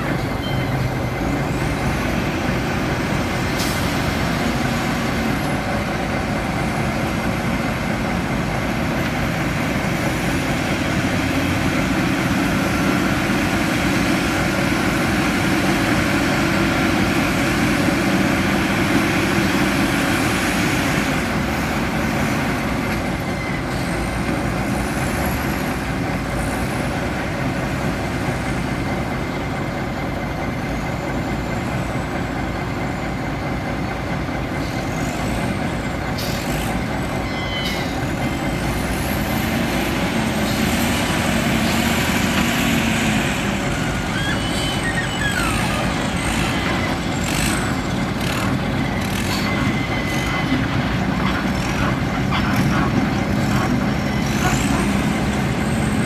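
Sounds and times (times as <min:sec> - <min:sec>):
wheel loader diesel engine rumble: 0:00.0 - 0:56.0.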